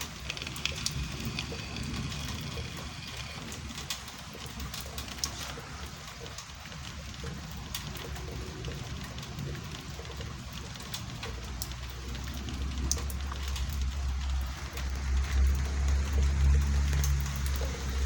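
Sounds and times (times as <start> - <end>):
drop ticks: 0.0 - 15.6
low thunder rumble: 0.0 - 18.0
rain hissing: 0.0 - 18.0.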